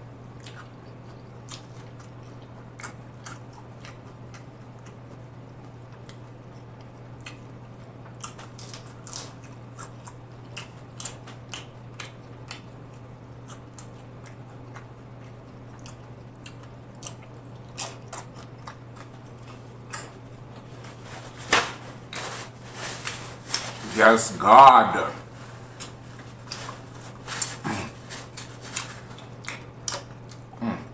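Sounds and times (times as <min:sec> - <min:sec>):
crunchy chewing: 0:00.3 - 0:23.9, 0:25.2 - 0:30.9.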